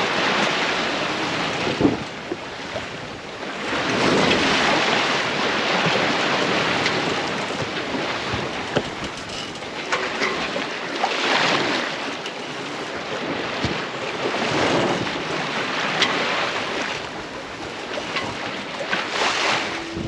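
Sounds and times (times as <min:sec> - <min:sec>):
wind on microphone: 0:00.0 - 0:12.0, 0:12.6 - 0:20.0
sea rushing past a boat hull: 0:00.0 - 0:20.0.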